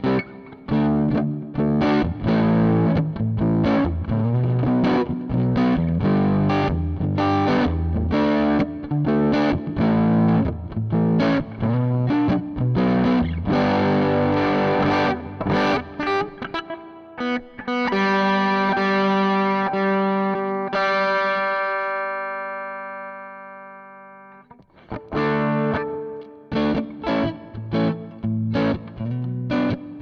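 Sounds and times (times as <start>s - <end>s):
overdriven electric guitar chords: 0.0s - 30.0s.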